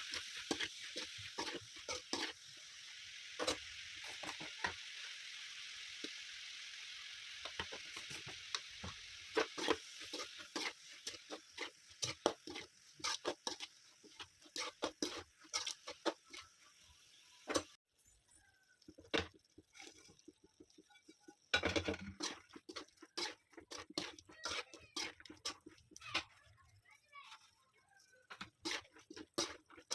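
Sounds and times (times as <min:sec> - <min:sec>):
spatula scraping a pan: 0:00.0 - 0:05.0, 0:07.4 - 0:16.8, 0:18.9 - 0:29.9
fried rice sizzling: 0:00.0 - 0:29.9.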